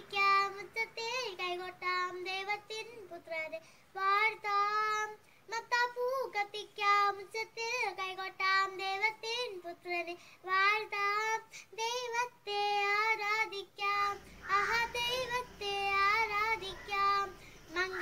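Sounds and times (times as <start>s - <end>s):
child singing: 0.0s - 18.0s
faint low hum: 0.0s - 18.0s.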